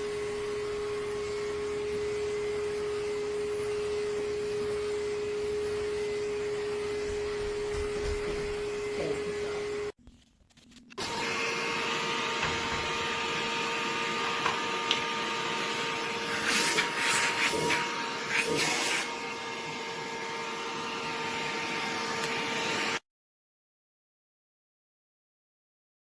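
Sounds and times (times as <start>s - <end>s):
pet clipper vacuum whining: 0.0s - 10.0s, 11.0s - 23.0s.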